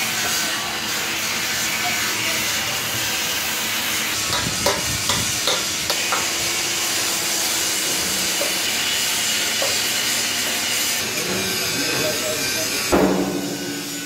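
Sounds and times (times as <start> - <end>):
workshop hiss: 0.0 - 14.0.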